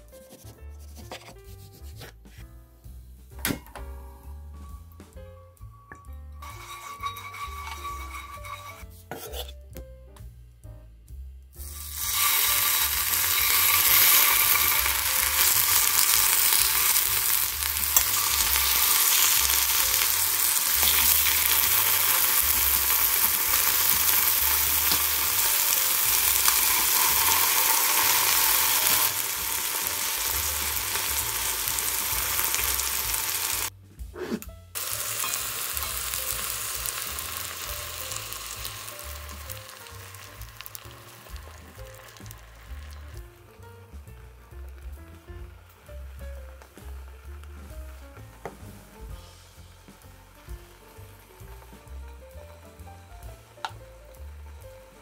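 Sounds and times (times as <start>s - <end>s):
tomato slices sizzling in oil: 5.6s - 9.8s, 11.6s - 55.0s.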